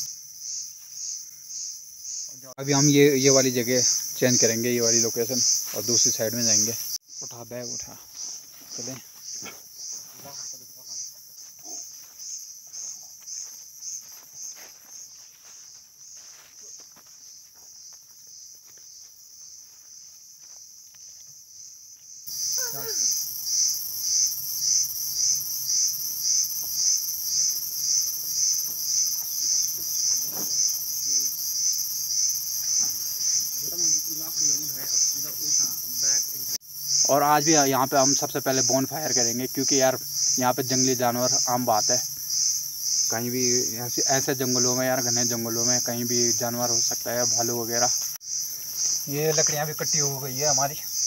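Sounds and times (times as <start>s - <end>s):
insects chirring in pulsing trill: 0.0s - 51.0s.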